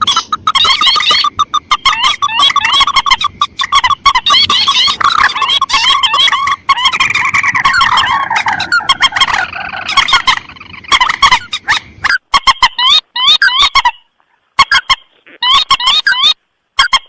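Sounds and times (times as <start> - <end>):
rail bird calls: 0.0 - 17.0.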